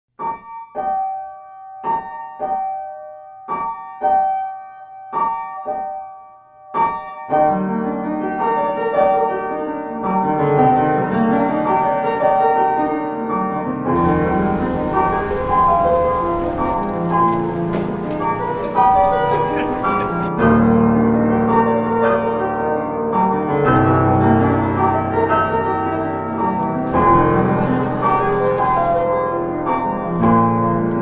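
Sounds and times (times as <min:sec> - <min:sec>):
pop piano chords: 0:00.2 - 0:31.0.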